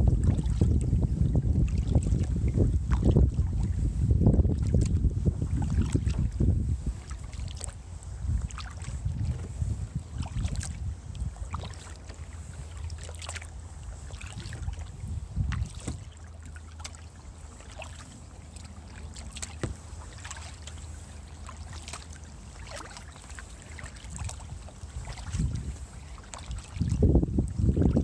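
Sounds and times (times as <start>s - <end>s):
paddle splashes and drips: 0.0s - 28.0s
steady low rumble: 0.0s - 28.0s.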